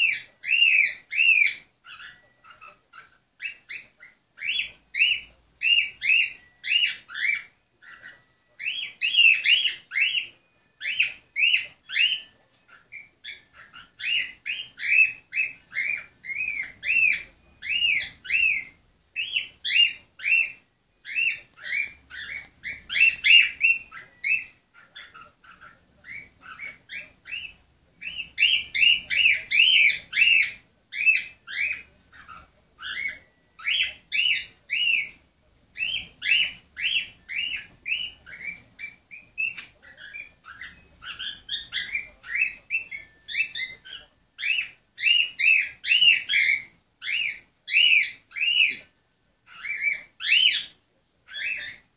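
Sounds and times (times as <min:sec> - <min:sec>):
cockatiel chirping: 0:00.0 - 0:51.9.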